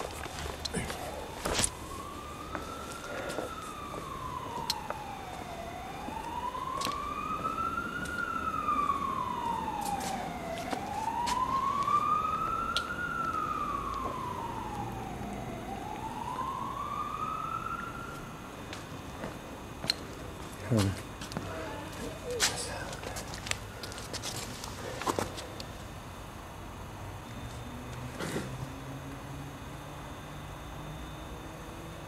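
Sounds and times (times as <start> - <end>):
emergency siren wailing: 0.0 - 25.9, 27.1 - 32.0.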